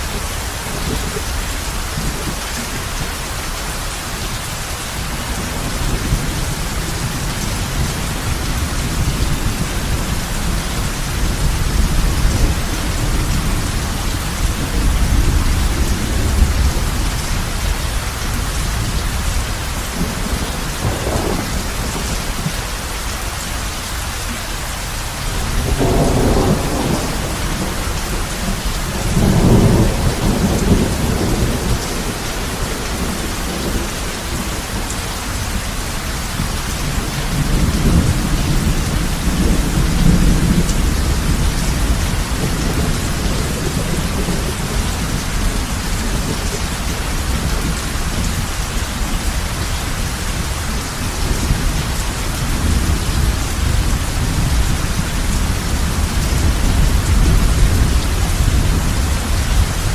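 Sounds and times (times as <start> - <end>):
heavy rain on a roof: 0.0 - 59.9
thunder rumbling: 4.3 - 23.5, 25.2 - 59.9.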